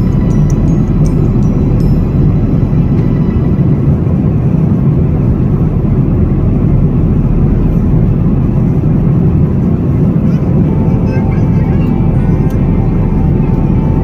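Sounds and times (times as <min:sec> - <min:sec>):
airliner cabin engine rush: 0:00.0 - 0:14.0.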